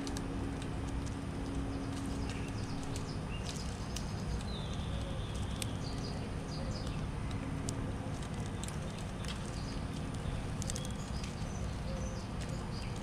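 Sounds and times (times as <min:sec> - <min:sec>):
doves pecking on wooden feeder: 0:00.0 - 0:13.0
low background noise: 0:00.0 - 0:13.0
small birds chirping: 0:00.0 - 0:13.0.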